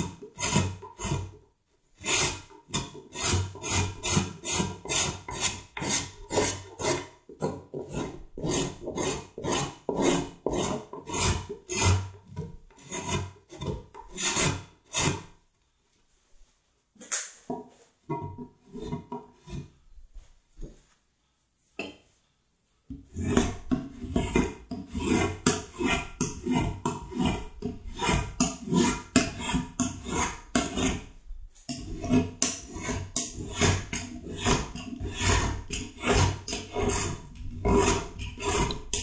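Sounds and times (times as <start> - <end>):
hand tool scraping wood: 0.0 - 1.4, 2.0 - 15.4, 17.7 - 19.8, 22.9 - 39.0.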